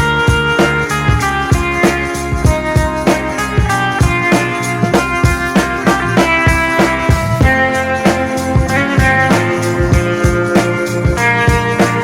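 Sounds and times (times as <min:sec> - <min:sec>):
guitar: 0:00.0 - 0:12.0
steady drum beat: 0:00.0 - 0:12.0.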